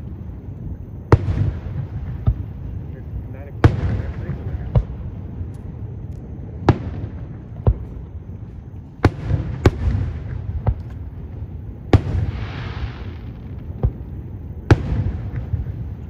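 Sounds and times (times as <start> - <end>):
fireworks bursting bangs: 0.0 - 5.9, 6.5 - 16.0
fireworks hiss: 1.1 - 5.8, 6.6 - 16.0.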